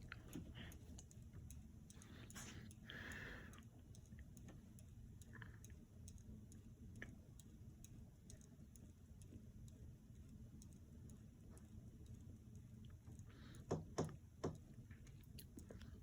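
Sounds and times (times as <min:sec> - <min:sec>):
light ticks: 0:00.0 - 0:13.7
ceiling fan humming: 0:00.0 - 0:16.0.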